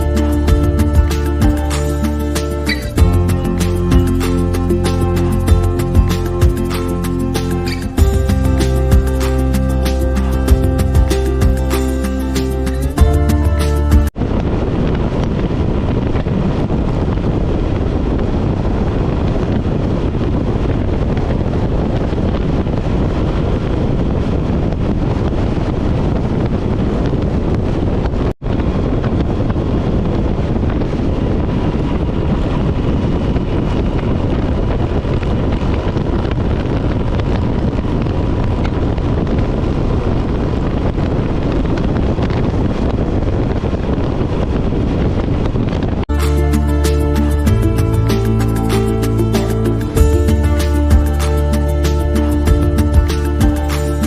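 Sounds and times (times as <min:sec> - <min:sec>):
road noise: 0:00.0 - 0:24.8, 0:28.4 - 0:54.0
wind buffeting microphone: 0:00.0 - 0:54.0.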